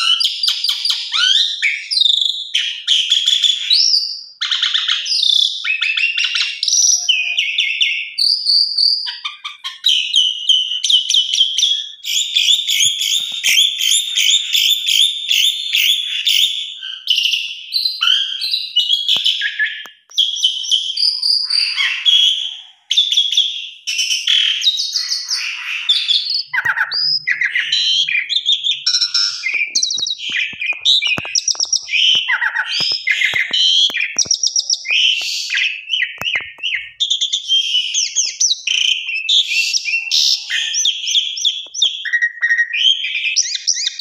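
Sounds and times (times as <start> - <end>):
starling singing: 0.0 - 44.0.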